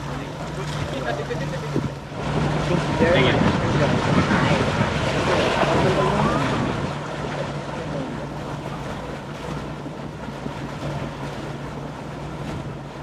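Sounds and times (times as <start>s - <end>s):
boat engine humming: 0.0s - 13.0s
water noise: 0.0s - 13.0s
wind: 0.0s - 13.0s.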